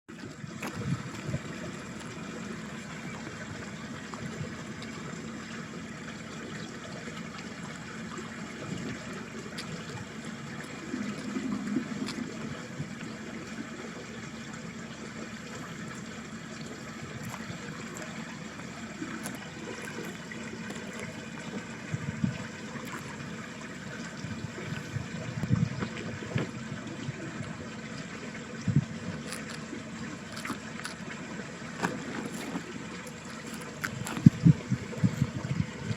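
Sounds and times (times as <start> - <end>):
water running in a ditch: 0.0 - 35.9.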